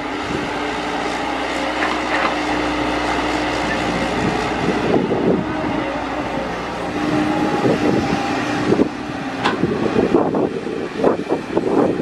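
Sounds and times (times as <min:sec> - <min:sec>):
excavator engine humming: 0:00.0 - 0:12.0.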